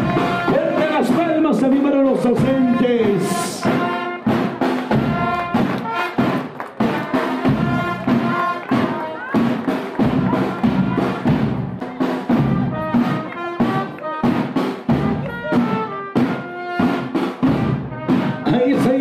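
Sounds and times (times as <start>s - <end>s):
marching band music: 0.0s - 19.0s
snare and bass drums: 0.0s - 19.0s.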